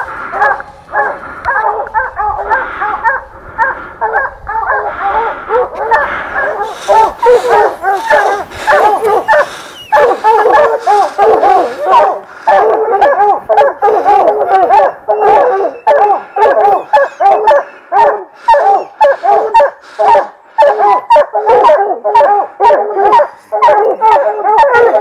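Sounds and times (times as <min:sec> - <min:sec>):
hounds barking: 0:00.0 - 0:25.0.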